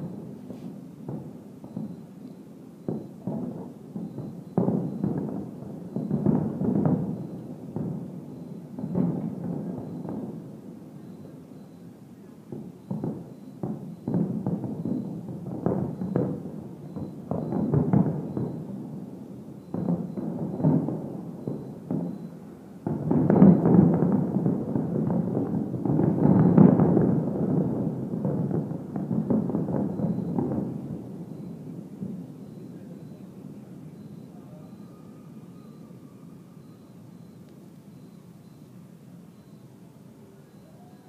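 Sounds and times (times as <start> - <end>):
distant fireworks bursts: 0.0 - 41.0.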